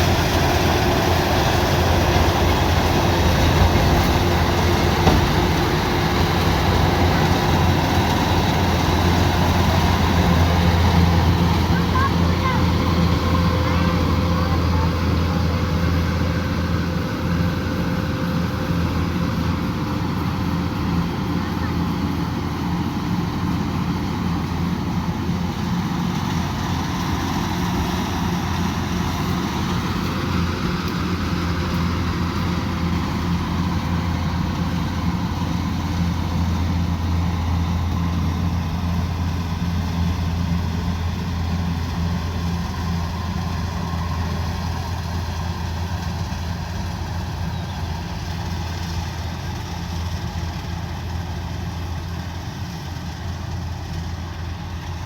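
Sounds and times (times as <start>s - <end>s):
combine harvester engine humming: 0.0s - 55.0s.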